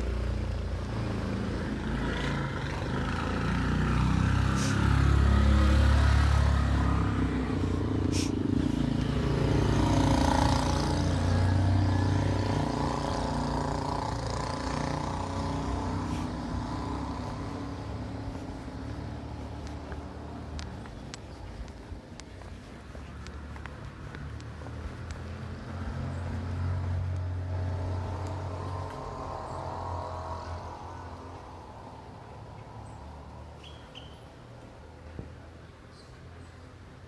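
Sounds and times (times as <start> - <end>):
vehicle engine passing by: 0.0 - 36.8.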